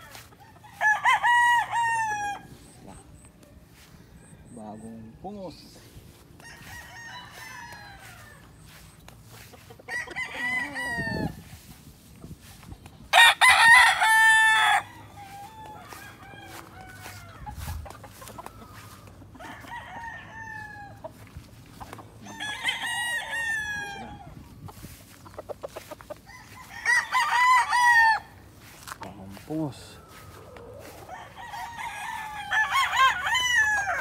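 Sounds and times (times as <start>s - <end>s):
roosters crowing: 0.0s - 34.0s.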